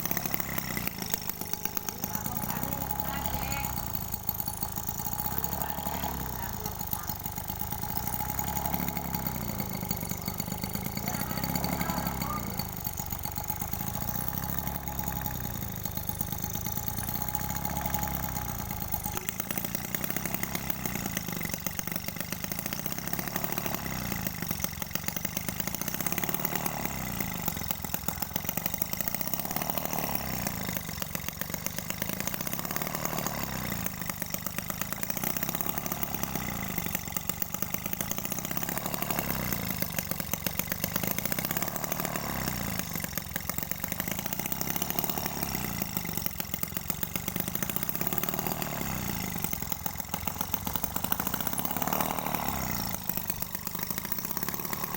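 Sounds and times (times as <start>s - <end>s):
small two-stroke engine running: 0.0s - 54.9s.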